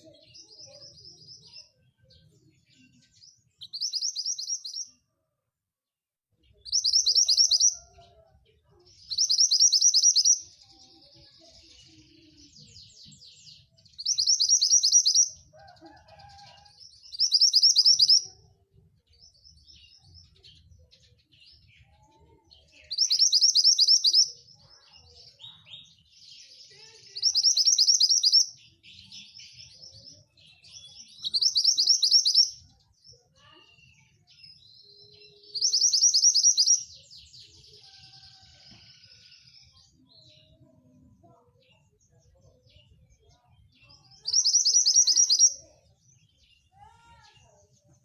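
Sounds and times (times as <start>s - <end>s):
bird twittering and chattering: 0.0s - 5.0s, 6.5s - 8.2s, 8.8s - 18.5s, 19.1s - 40.6s, 41.2s - 48.0s.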